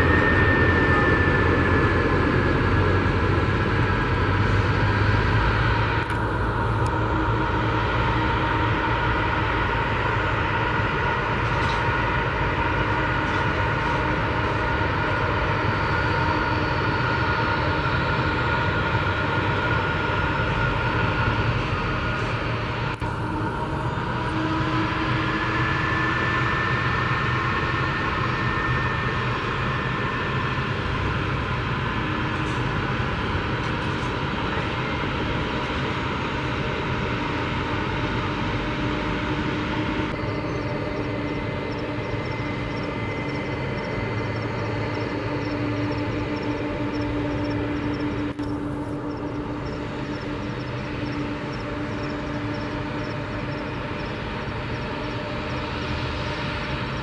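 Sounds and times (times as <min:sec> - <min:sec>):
jet engines rumbling and whining: 0:00.0 - 0:57.0.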